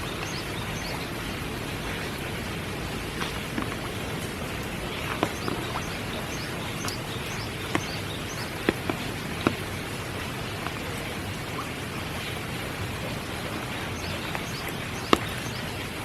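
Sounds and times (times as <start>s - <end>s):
rain falling: 0.0s - 16.0s
sharp drips: 0.0s - 16.0s.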